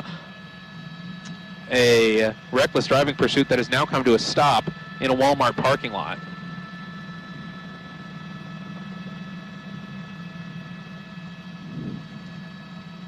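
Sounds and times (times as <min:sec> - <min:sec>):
helicopter cabin hum: 0:00.0 - 0:13.0
high whining tones: 0:00.0 - 0:13.0.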